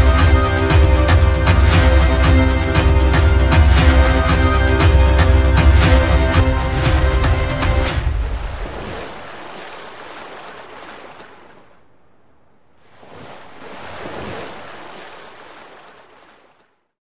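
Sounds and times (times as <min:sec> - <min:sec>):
sea waves washing: 0:00.0 - 0:16.8.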